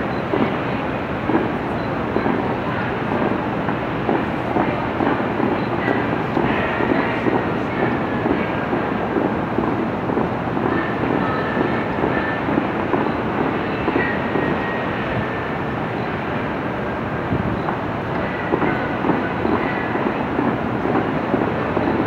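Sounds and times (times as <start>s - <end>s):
city traffic: 0.0s - 22.0s
fountain water jets spraying: 0.0s - 22.0s.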